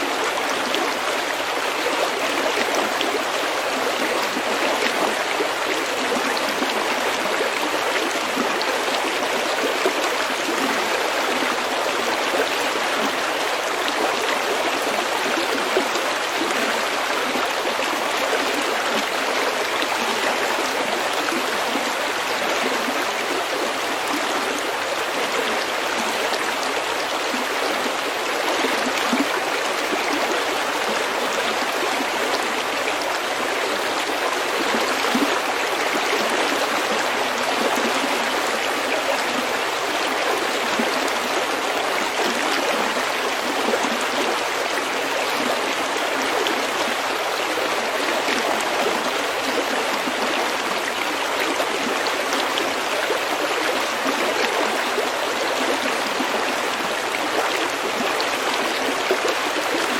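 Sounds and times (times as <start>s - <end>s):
stream flowing over pebbles: 0.0s - 59.9s.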